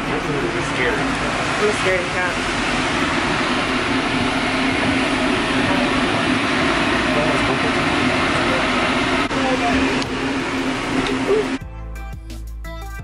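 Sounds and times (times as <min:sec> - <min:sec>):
passenger train rumbling: 0:00.0 - 0:11.6.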